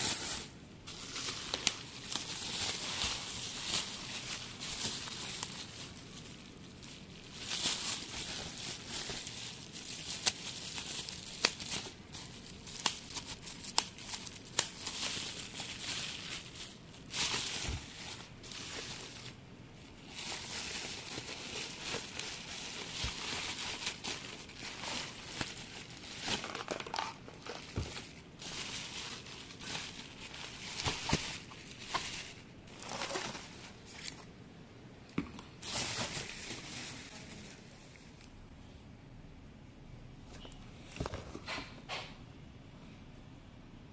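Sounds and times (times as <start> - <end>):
bubble wrap crinkling: 0.0 - 34.3, 35.6 - 38.3.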